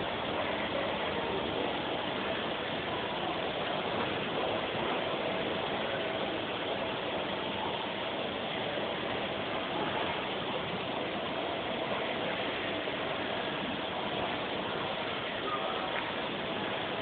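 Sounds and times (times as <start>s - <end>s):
faint mechanical hum: 0.0s - 17.0s.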